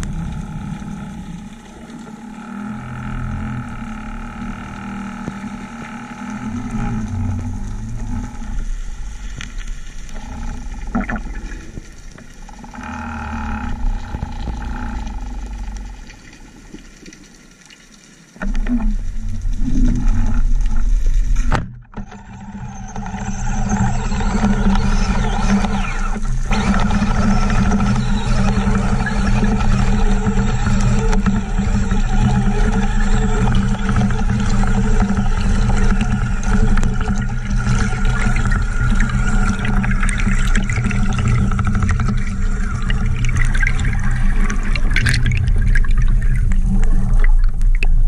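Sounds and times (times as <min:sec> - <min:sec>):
underwater water noise: 0:00.0 - 0:48.0.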